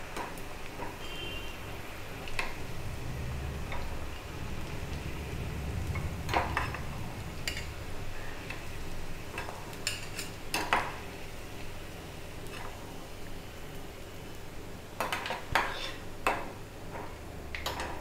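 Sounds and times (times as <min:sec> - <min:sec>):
frying oil sizzling: 0:00.0 - 0:18.0.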